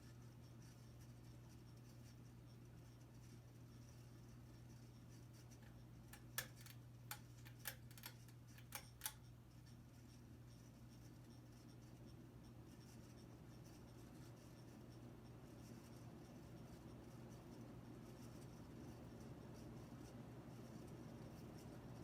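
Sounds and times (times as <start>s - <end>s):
ceiling fan humming: 0.0s - 22.0s
sharp irregular ticks: 0.1s - 22.0s.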